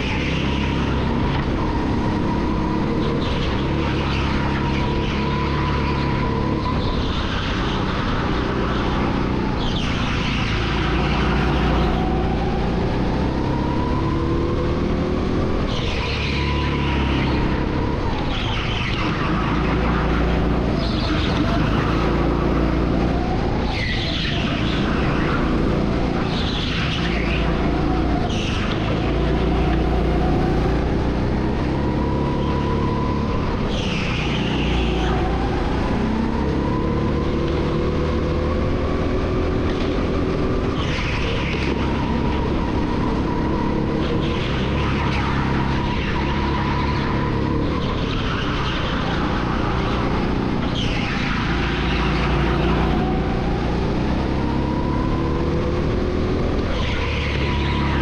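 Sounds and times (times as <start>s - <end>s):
go-kart motor revving: 0.0s - 58.0s.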